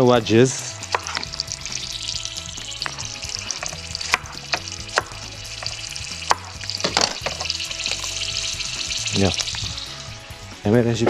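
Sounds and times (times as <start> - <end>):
food sizzling in a pan: 0.0 - 10.7.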